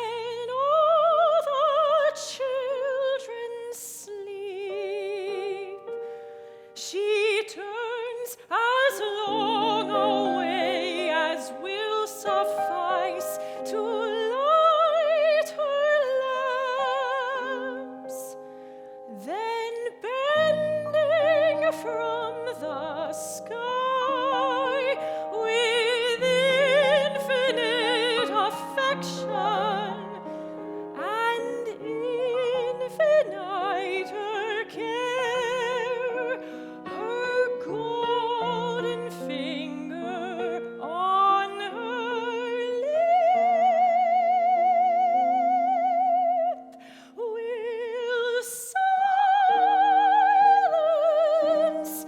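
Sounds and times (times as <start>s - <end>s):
soprano singing: 0.0s - 52.0s
piano accompaniment: 4.2s - 48.0s.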